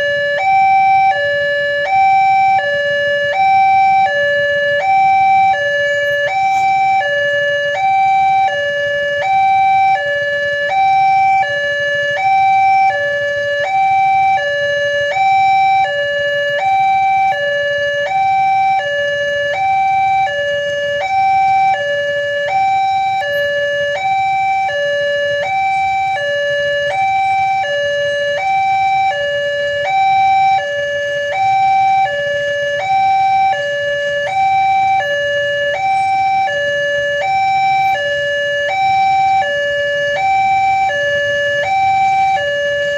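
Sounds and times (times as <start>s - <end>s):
level-crossing two-tone alarm: 0.0s - 42.9s.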